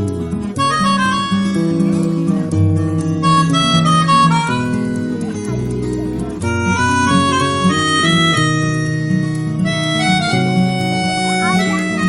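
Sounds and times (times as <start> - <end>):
background music melody over chords: 0.0 - 12.0.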